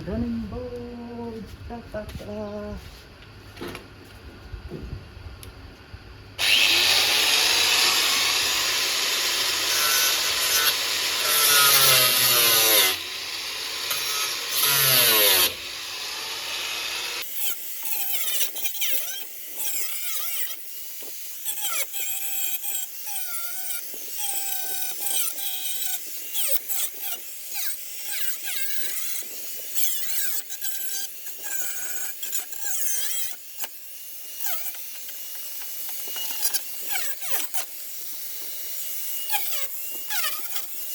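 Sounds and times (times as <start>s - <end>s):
angle grinder cutting sheet metal: 6.4s - 40.9s.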